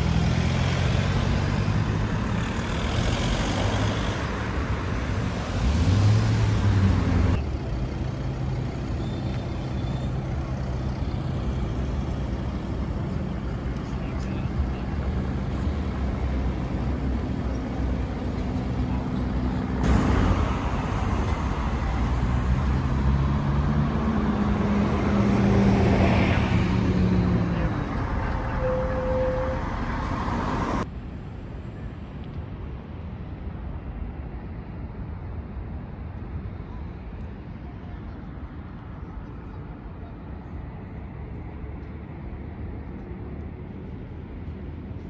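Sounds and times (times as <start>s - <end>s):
road traffic hum: 0.0s - 45.0s.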